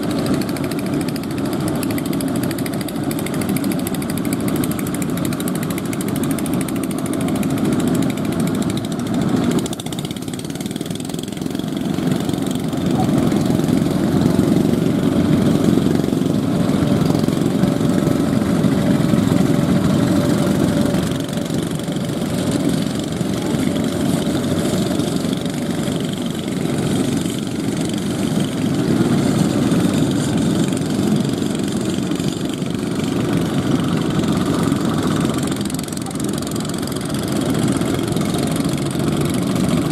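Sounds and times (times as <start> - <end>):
boat engines running: 0.0 - 39.9.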